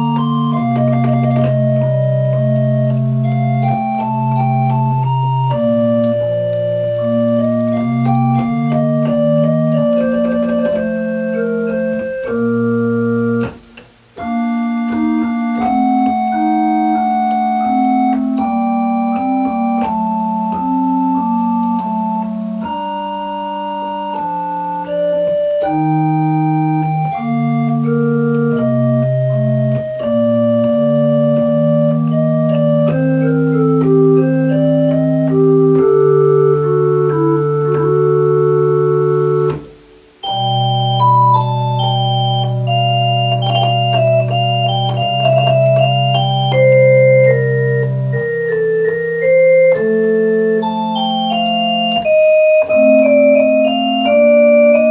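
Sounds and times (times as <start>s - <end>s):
organ playing baroque piece: 0.0s - 54.9s.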